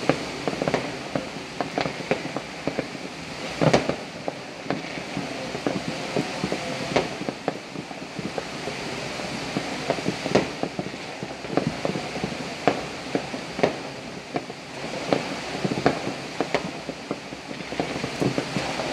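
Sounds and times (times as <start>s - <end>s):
distant fireworks popping: 0.0s - 18.9s
steady background hiss: 0.0s - 18.9s.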